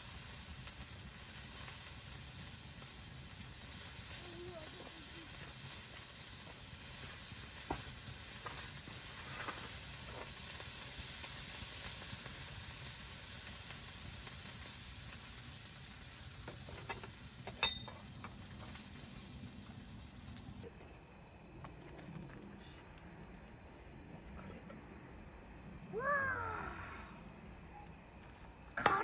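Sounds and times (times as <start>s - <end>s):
food sizzling over campfire: 0.0s - 24.1s, 25.2s - 29.0s.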